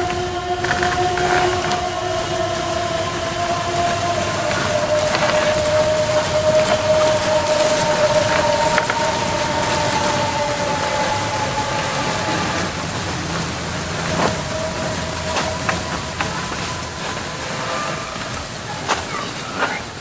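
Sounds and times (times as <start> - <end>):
muffled hiss: 0.0 - 20.0.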